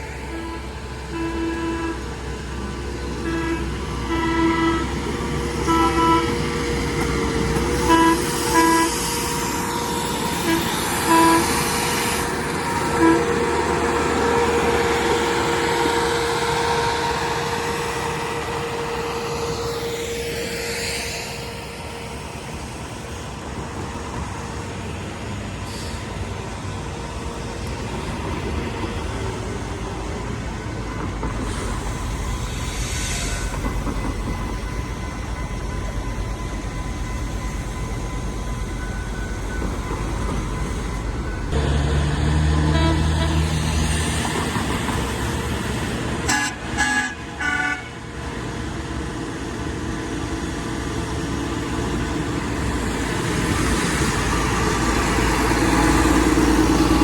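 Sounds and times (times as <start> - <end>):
vehicle engine rumble: 0.0 - 46.8.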